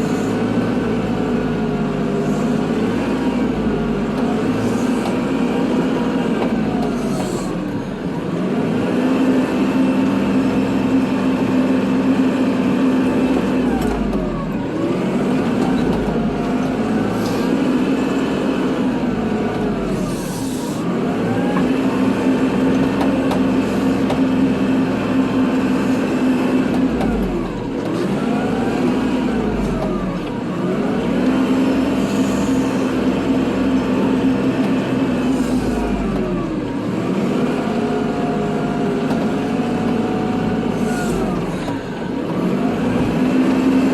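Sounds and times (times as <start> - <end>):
tractor diesel engine whining: 0.0 - 43.9.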